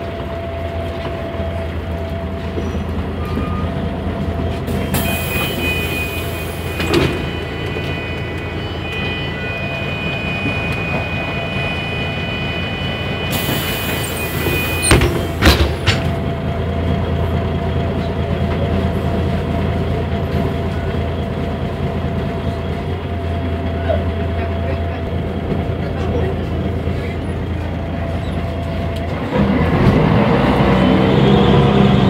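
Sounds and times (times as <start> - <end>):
bus diesel engine drone: 0.0 - 32.0.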